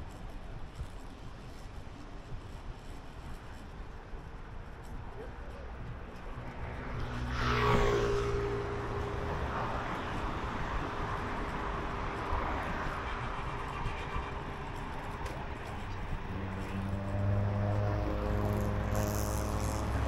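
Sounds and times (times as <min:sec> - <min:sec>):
road traffic passing: 0:00.0 - 0:20.0
vehicle engine hum approaching: 0:00.1 - 0:20.0.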